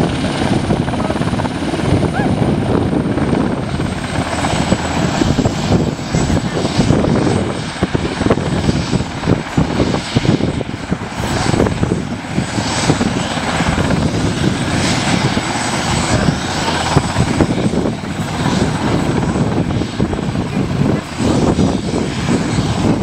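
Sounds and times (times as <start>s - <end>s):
helicopter rotor chop: 0.0s - 23.0s
helicopter turbine whine: 0.0s - 23.0s.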